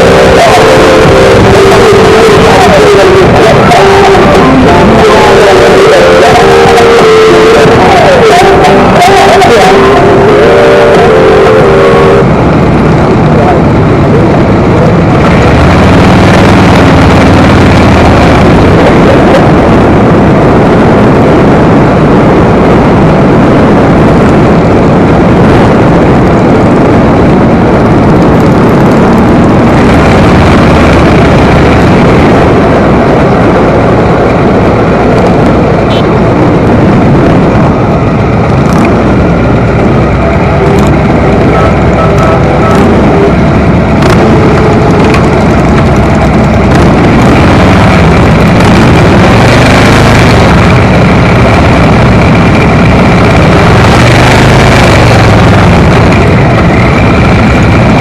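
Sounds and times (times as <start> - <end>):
wind rushing on microphone: 0.0 - 58.0
motorcycle engine running: 10.1 - 58.0.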